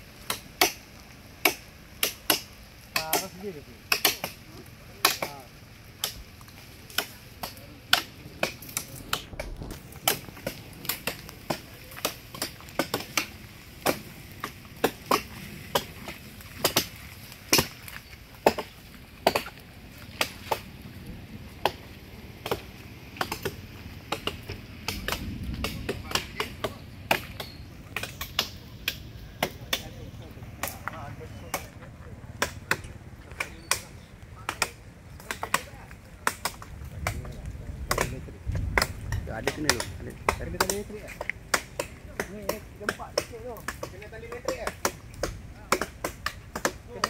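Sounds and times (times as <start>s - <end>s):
machetes chopping wood: 0.2s - 0.8s, 1.4s - 20.7s, 21.6s - 29.9s, 32.4s - 37.3s, 37.9s - 47.0s.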